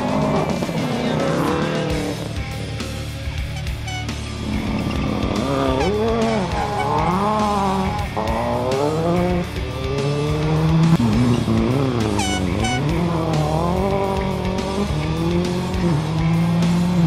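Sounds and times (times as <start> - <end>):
rally car engine revving: 0.0 - 17.0
rock music: 0.0 - 17.0.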